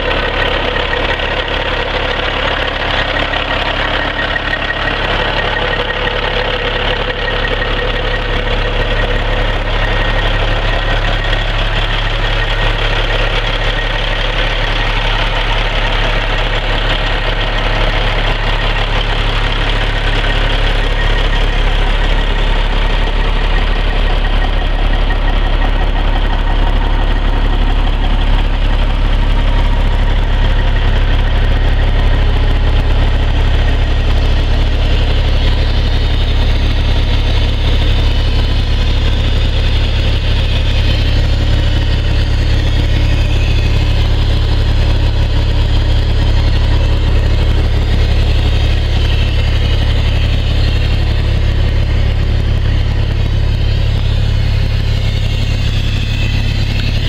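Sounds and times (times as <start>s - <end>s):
truck diesel engine idling: 0.0s - 57.0s.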